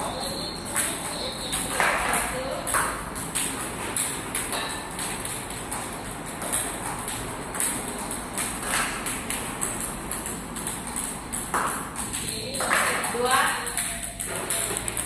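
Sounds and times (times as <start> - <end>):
table tennis balls bouncing: 0.0 - 15.0.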